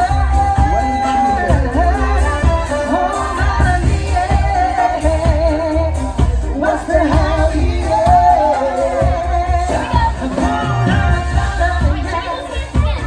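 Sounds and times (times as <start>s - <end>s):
heavy pulsing bass beat: 0.0s - 13.0s
live band playing upbeat song: 0.0s - 13.0s
person singing: 0.0s - 13.0s.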